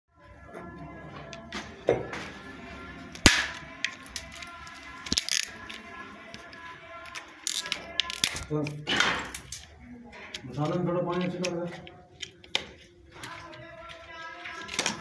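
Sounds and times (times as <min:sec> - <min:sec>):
background music: 0:00.1 - 0:15.0.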